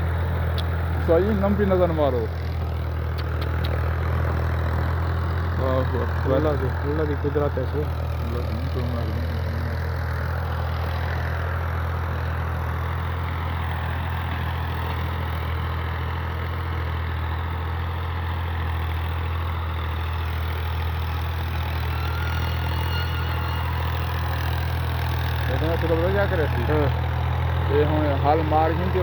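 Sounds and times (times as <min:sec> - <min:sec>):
engine humming steadily: 0:00.0 - 0:29.0.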